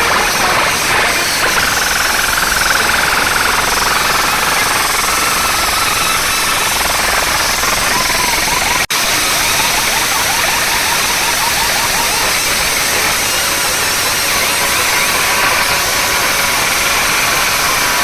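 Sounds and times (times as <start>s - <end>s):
distorted loud sound system: 0.0s - 18.0s.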